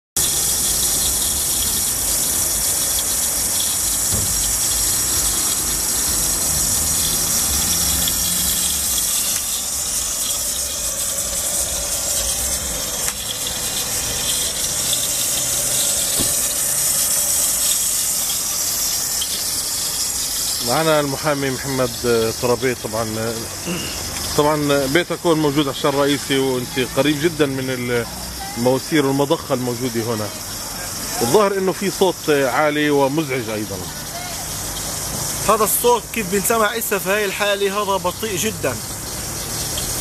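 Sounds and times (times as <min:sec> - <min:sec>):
water rushing through pumps: 0:00.2 - 0:40.0.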